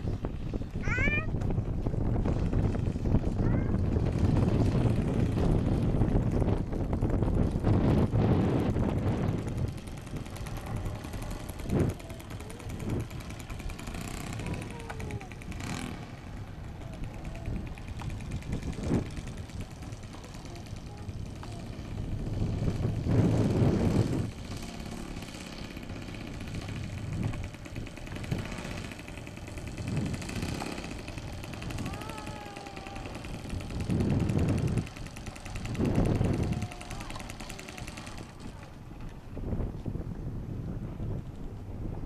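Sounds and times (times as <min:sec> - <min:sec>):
model airplane engine passing: 0:00.0 - 0:40.0
wind gusts on microphone: 0:00.0 - 0:42.0.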